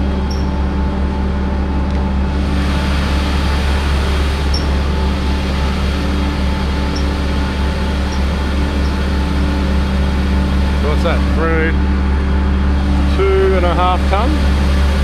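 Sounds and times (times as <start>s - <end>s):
crane diesel engine droning: 0.0s - 15.0s.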